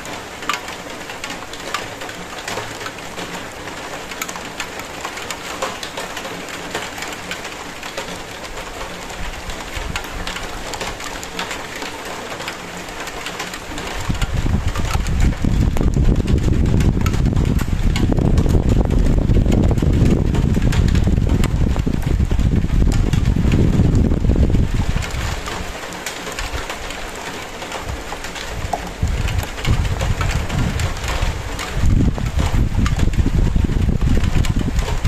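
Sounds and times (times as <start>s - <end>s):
raindrops ticking on hard surface: 0.0s - 35.0s
steady rain: 0.0s - 35.0s.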